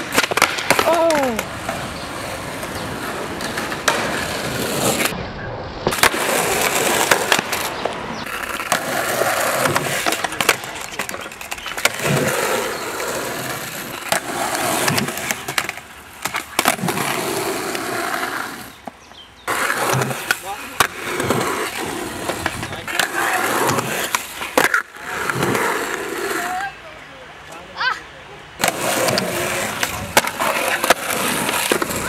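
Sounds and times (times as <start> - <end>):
skateboard popping and landing: 0.0 - 5.2, 5.8 - 26.6, 28.6 - 32.0
skateboard trucks grinding on metal: 0.0 - 5.2, 5.9 - 26.8, 28.6 - 32.0
skateboard wheels rolling: 0.0 - 32.0.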